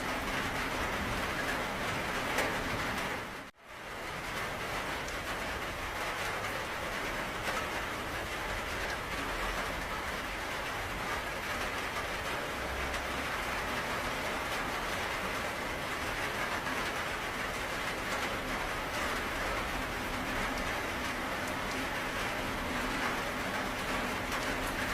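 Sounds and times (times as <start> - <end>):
steady rainfall: 0.0 - 24.9.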